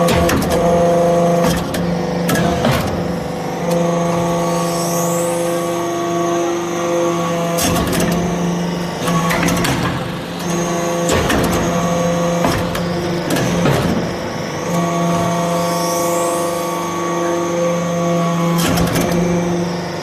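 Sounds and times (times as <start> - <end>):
hydraulic pump hum: 0.0 - 20.0.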